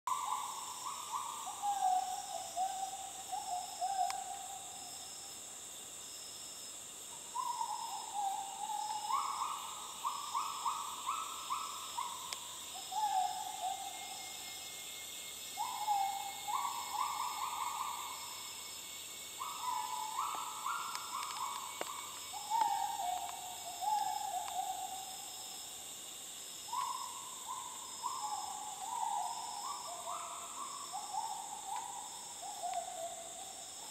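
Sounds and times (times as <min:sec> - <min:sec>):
high-pitched hiss: 0:00.2 - 0:33.9.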